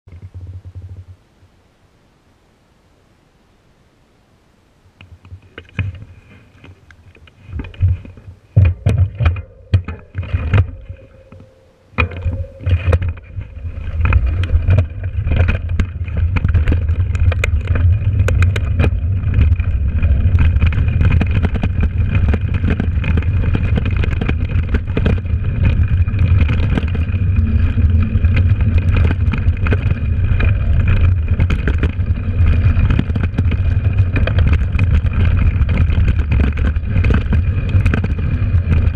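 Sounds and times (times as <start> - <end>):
wind rumble on microphone: 0.1 - 1.6, 4.9 - 38.9
bike clattering over bumpy ground: 5.2 - 38.9
knocks and rattles: 7.5 - 38.9.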